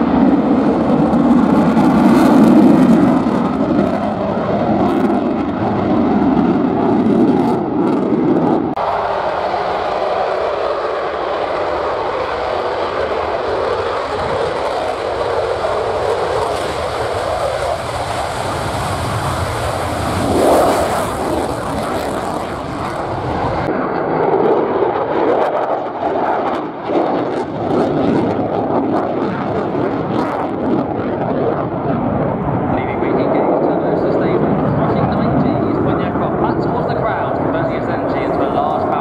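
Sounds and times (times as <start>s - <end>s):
jet engines in afterburner: 0.0s - 39.0s.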